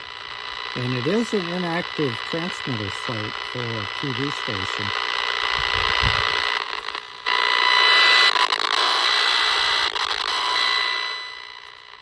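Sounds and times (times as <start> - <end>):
high-pitched whine: 0.0 - 12.0
radio interference buzzing and hissing: 0.0 - 12.0.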